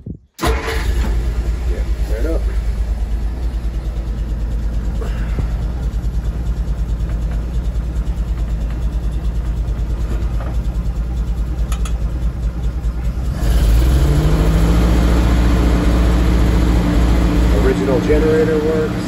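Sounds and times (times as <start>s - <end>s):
truck engine idling and revving: 0.4s - 19.0s.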